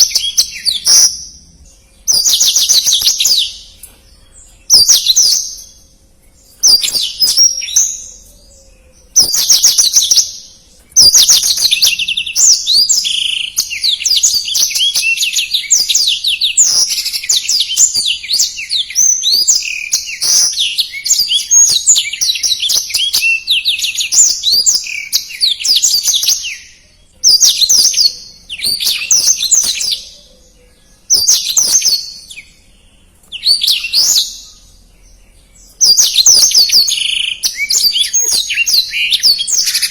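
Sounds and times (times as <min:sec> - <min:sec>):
canary singing trilled song: 0:00.0 - 0:39.9.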